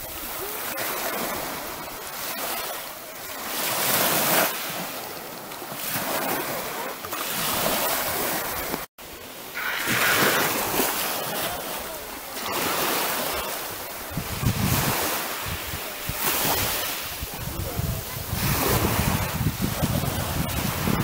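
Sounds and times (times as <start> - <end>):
sea surf washing on beach: 0.0 - 21.0.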